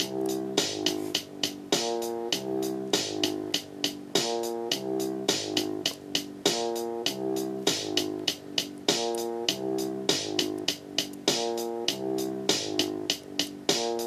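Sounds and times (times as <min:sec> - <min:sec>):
electronic drum and synth beat: 0:00.0 - 0:14.0.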